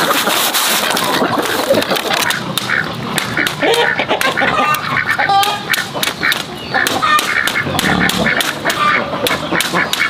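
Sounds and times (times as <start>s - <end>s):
ducks quacking: 0.0s - 10.0s
machete shaving bamboo: 0.0s - 10.0s.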